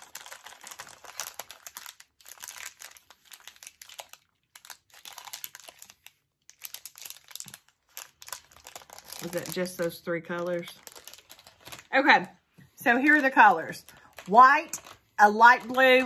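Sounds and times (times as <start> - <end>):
plastic bag crinkling: 0.0 - 12.3, 12.9 - 16.0.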